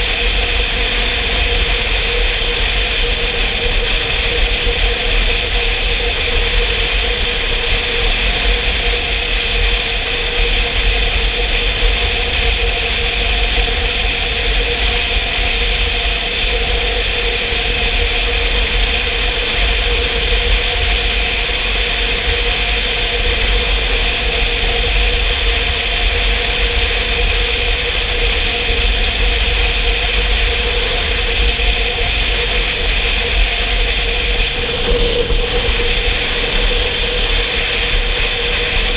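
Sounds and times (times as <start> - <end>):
motorcycle engine droning: 0.0 - 38.9
wind rumble on microphone: 0.0 - 38.9.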